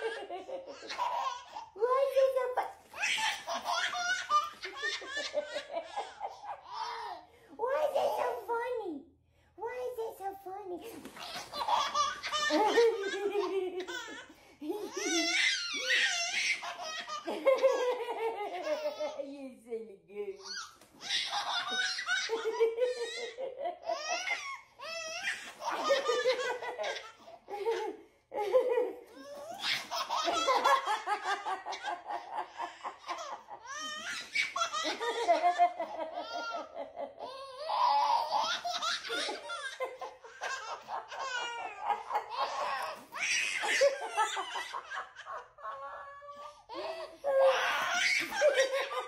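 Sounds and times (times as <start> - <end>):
baby laughing: 0.0 - 8.4, 11.0 - 19.2, 20.4 - 49.0.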